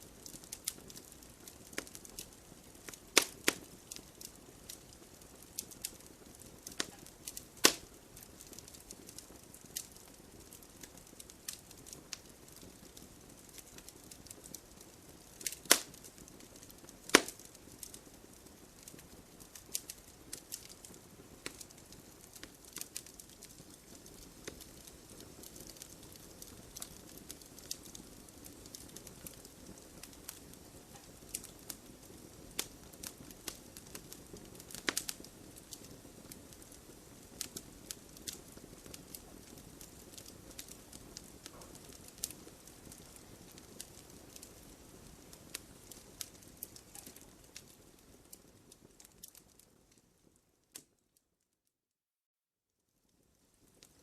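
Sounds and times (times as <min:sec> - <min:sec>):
wood fire crackling and popping: 0:00.0 - 0:51.2, 0:53.1 - 0:54.0.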